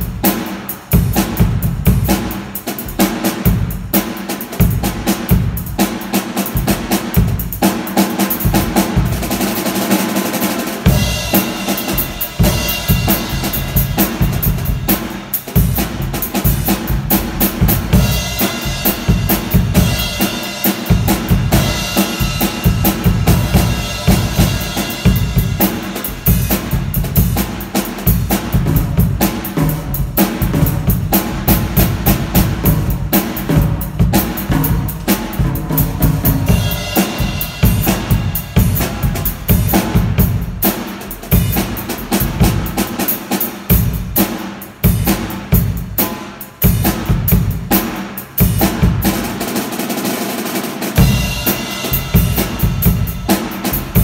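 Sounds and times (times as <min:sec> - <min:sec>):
bass drum beats: 0:00.0 - 0:09.9, 0:10.7 - 0:43.0, 0:51.0 - 0:54.0
drum kit playing: 0:00.0 - 0:54.0
snare drum strokes: 0:00.0 - 0:54.0.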